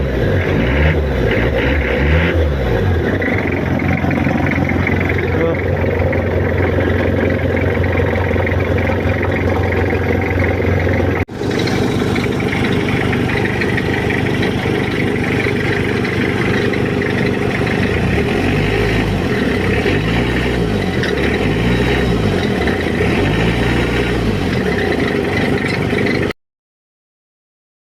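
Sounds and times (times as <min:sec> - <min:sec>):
van engine running and revving: 0:00.0 - 0:26.4.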